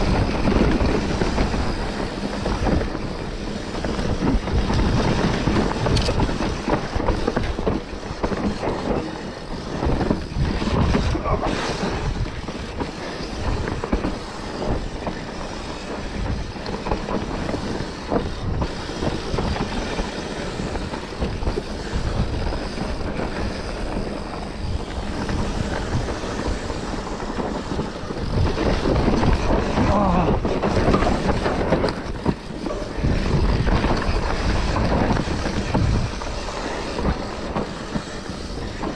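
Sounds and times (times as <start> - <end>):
motorbike ride noise: 0.0 - 38.9
wind on microphone: 0.0 - 38.9.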